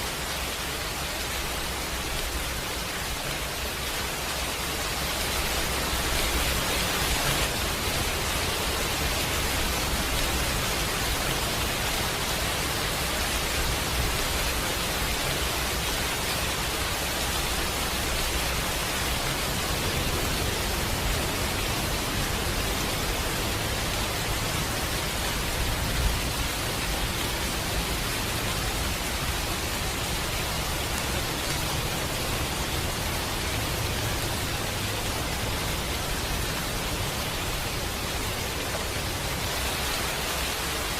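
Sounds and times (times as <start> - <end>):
rain hiss: 0.0 - 40.9.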